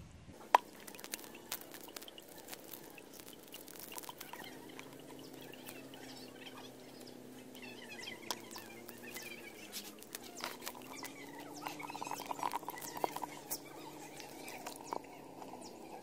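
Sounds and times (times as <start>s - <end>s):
faint low hum: 0.0s - 16.0s
faint bird chirps: 0.4s - 16.0s
fish flapping in a net: 0.4s - 16.0s.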